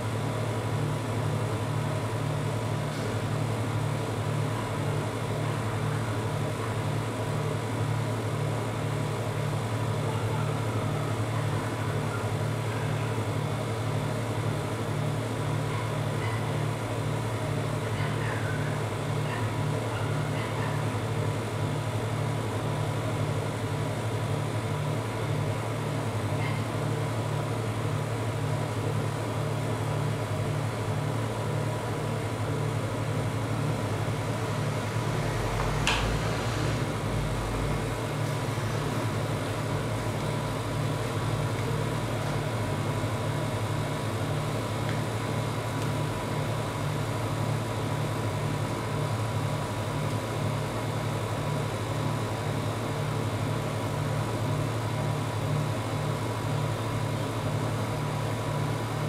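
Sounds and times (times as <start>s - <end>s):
compressor and fan humming: 0.0s - 59.0s.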